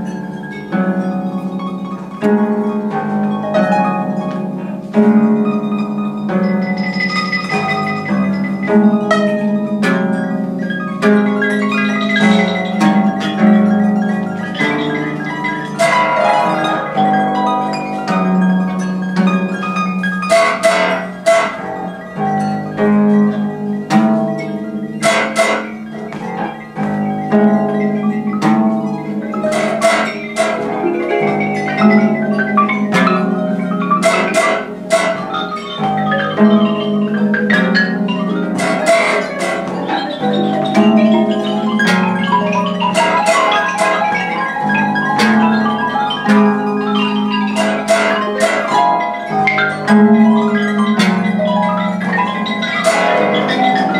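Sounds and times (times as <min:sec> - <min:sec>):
plucked harp notes: 0:00.0 - 0:53.9.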